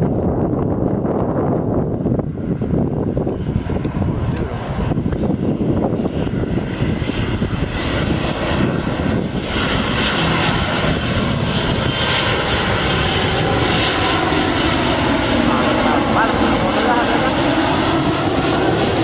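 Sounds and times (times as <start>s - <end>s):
airliner engines droning: 0.0s - 19.0s.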